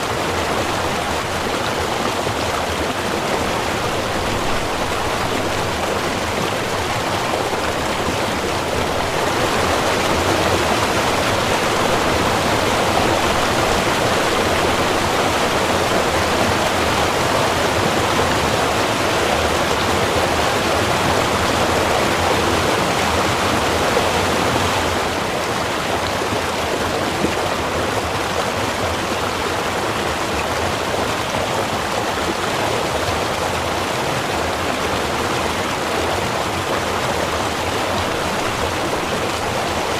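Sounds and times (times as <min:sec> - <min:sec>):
river water rushing and burbling: 0:00.0 - 0:39.9.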